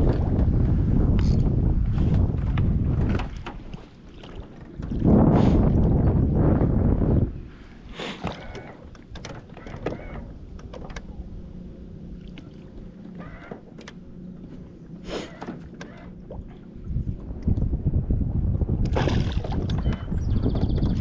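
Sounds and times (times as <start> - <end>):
wind buffeting microphone: 0.0 - 12.9, 16.1 - 21.0.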